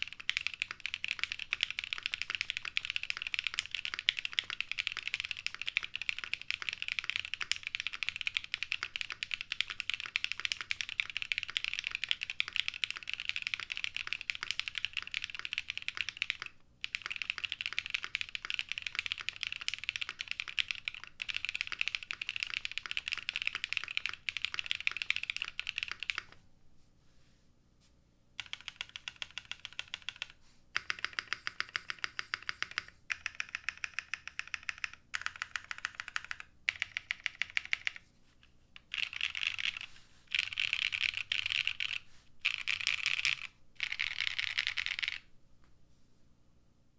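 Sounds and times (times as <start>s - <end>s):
fast typing on mechanical keyboard: 0.0s - 26.4s, 28.4s - 38.0s, 38.8s - 45.3s.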